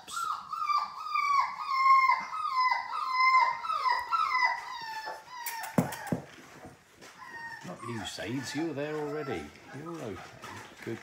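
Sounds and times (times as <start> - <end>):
puppy whining: 0.0 - 11.0.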